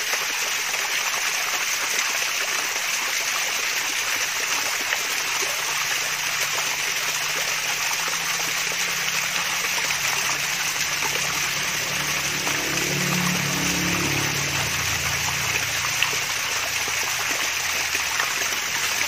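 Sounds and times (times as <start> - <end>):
water splashing down waterfall: 0.0 - 19.0.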